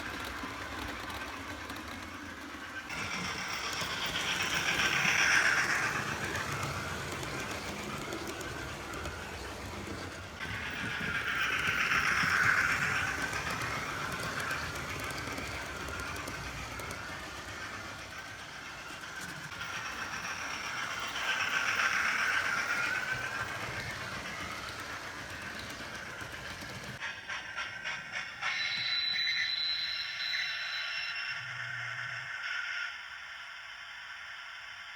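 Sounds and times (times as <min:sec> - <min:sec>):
model train wheels clattering: 0:00.0 - 0:29.4
steam engine sound from speaker: 0:00.0 - 0:34.9.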